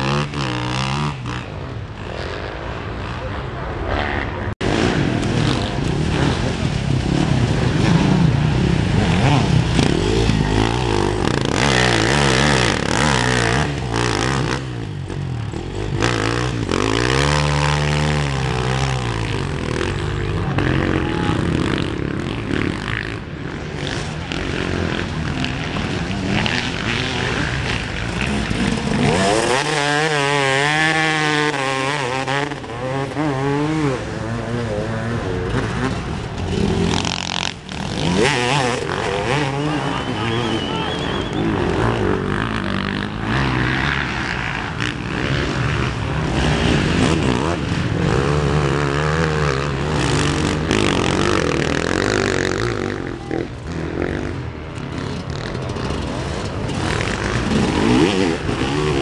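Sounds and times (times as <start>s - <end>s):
motorcycle engine revving: 0.0s - 59.0s
motorcycle engines running: 0.0s - 59.0s.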